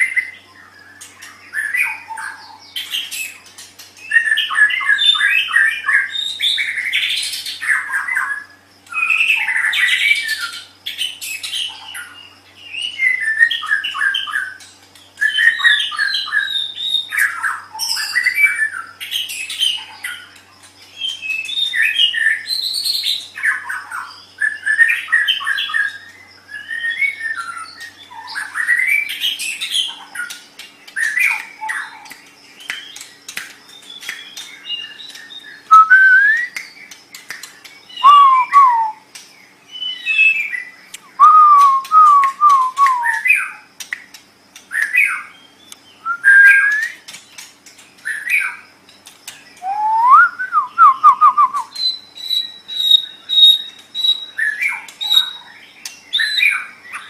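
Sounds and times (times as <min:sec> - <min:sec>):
songbird whistling song: 0:00.0 - 0:57.0.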